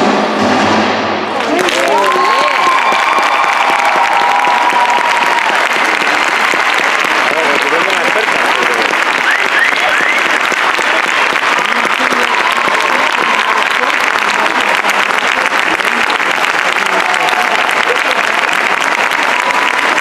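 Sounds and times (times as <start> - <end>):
people cheering: 1.2 - 20.0
audience applauding: 1.3 - 20.0.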